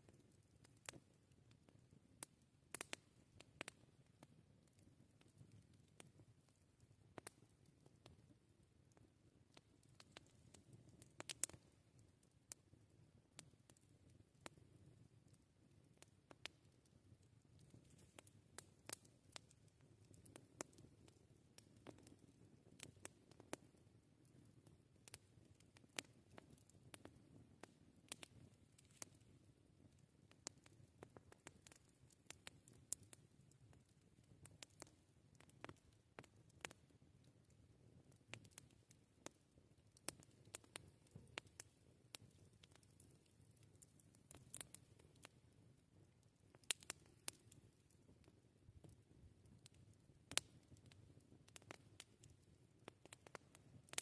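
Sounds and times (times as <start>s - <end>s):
campfire crackling: 0.0s - 54.0s
soft low hiss: 0.0s - 54.0s.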